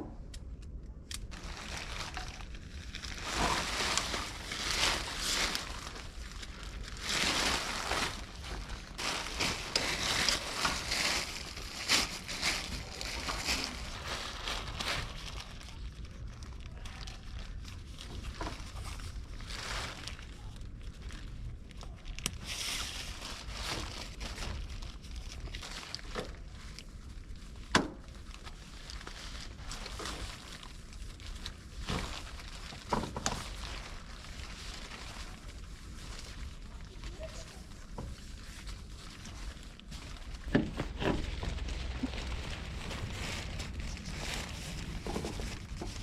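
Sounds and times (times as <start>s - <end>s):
rustling and crinkling: 0.0s - 46.0s.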